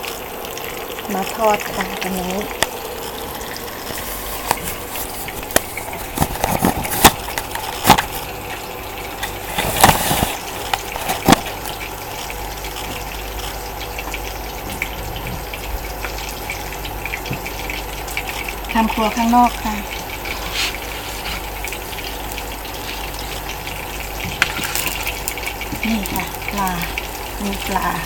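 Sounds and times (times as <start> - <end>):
oil sizzling in a frying pan: 0.0 - 28.0.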